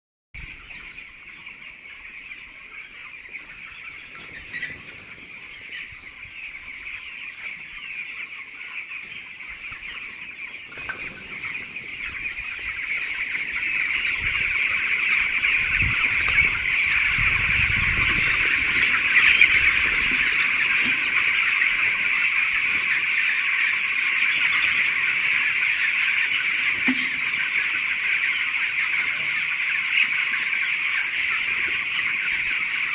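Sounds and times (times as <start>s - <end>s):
chickens clucking and peeping: 0.4s - 32.9s.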